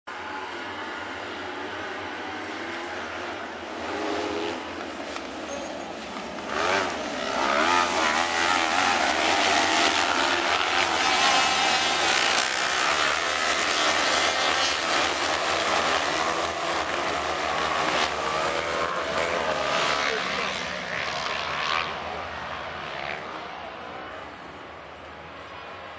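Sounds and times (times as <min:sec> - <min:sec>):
buggy engines revving: 0:00.1 - 0:25.9.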